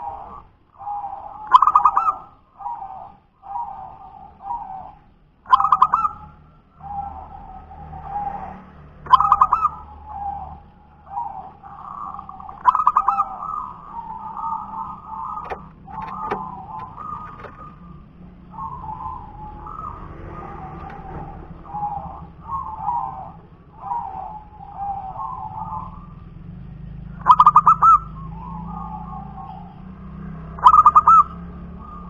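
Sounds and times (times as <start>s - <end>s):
dove cooing song: 0.0s - 32.0s.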